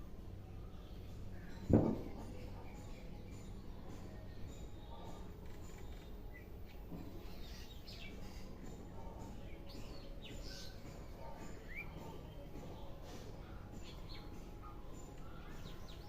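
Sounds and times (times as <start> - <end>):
steady background noise: 0.0 - 16.0
birds chirping: 0.2 - 16.0.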